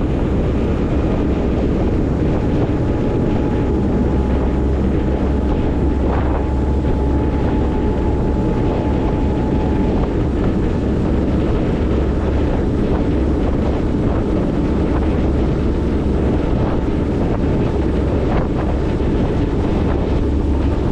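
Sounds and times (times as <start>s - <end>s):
faint steady whine: 0.0s - 20.9s
ferry engine drone: 0.0s - 20.9s
rushing water: 0.0s - 20.9s
wind buffeting microphone: 0.0s - 20.9s.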